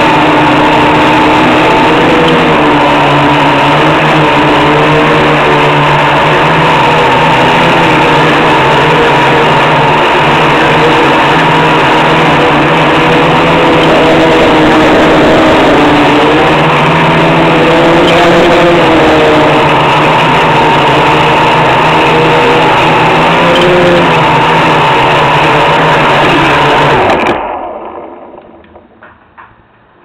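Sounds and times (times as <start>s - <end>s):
quadcopter motors buzzing: 0.0s - 28.8s.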